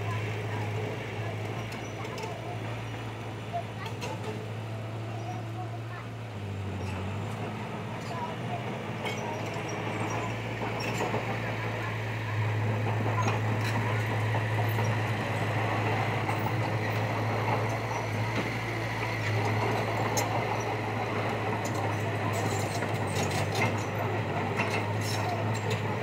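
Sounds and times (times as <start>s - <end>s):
heavy machinery engine hum: 0.0s - 26.0s.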